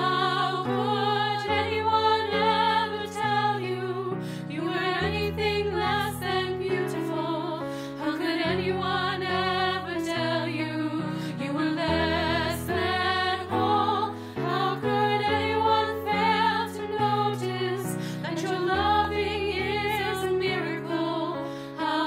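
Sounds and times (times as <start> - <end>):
women singing in harmony: 0.0 - 22.0.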